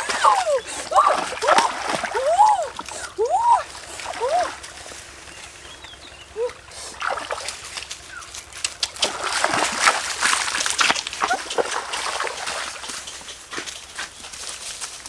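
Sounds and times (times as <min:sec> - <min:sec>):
footsteps splashing in stream: 0:00.0 - 0:05.8, 0:06.8 - 0:15.0.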